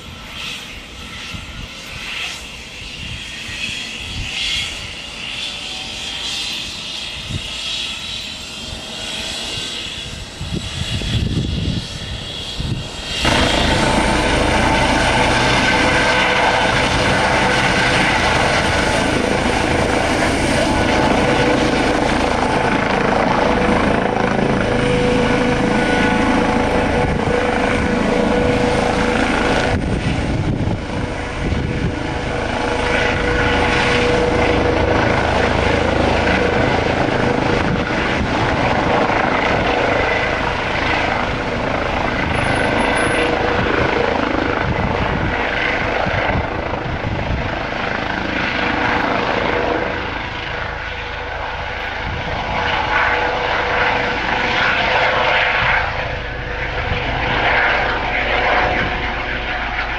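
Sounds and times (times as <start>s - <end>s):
helicopter turbine whine and rotor: 0.0s - 59.9s.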